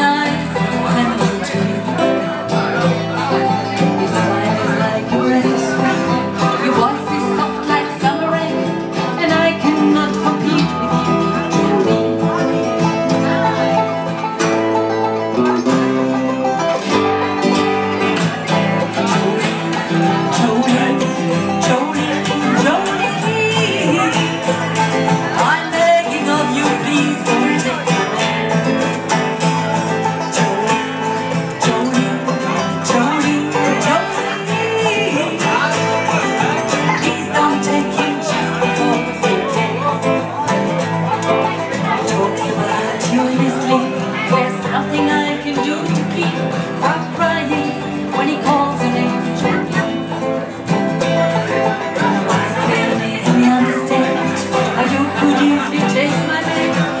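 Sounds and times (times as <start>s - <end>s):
acoustic guitars strumming and picking: 0.0s - 57.0s
banjo: 0.0s - 57.0s.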